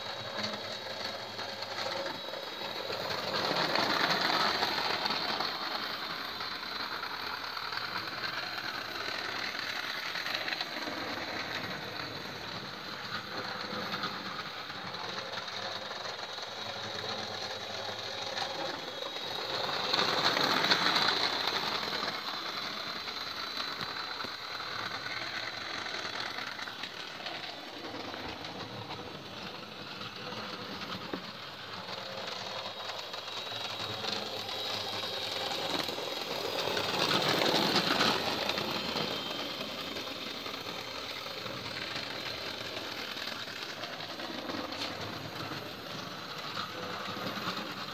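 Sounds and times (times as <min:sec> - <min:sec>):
model train motor whirring: 0:00.0 - 0:47.9
model train wheels rattling: 0:00.0 - 0:47.9.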